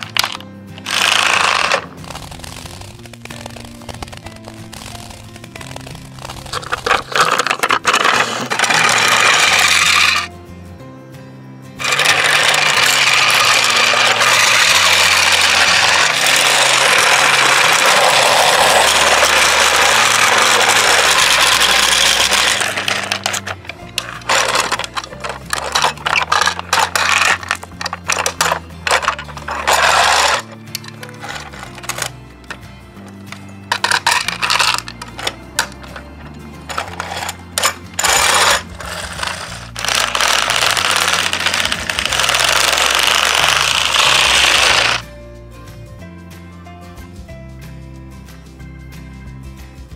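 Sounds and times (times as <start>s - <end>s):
stones clicking and clattering: 0.0s - 10.3s, 11.8s - 45.0s
toy vehicles rattling over gravel: 0.0s - 10.3s, 11.8s - 45.0s
background music: 0.0s - 49.9s.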